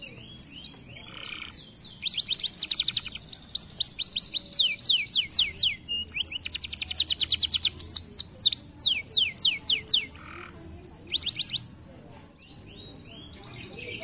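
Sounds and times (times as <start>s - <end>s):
canary singing: 0.0s - 11.8s, 12.4s - 14.0s.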